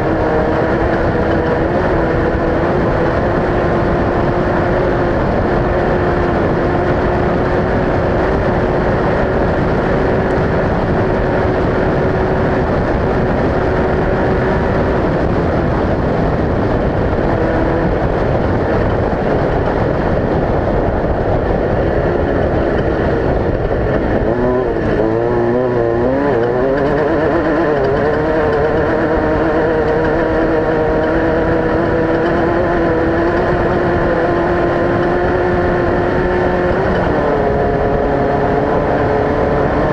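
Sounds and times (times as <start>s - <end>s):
loud steady rush of noise: 0.0s - 39.9s
race vehicle engine running hard: 0.0s - 39.9s.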